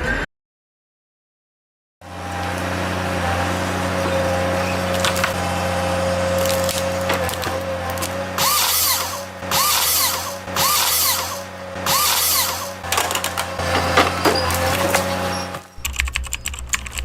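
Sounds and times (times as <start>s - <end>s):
low engine hum: 2.0s - 17.0s
drill-like whirring: 2.2s - 16.4s.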